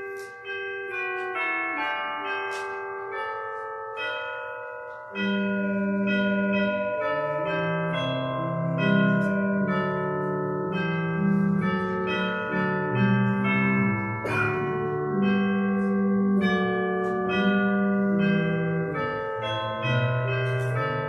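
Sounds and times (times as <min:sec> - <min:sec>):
hymn chords on keyboard: 0:00.0 - 0:21.0.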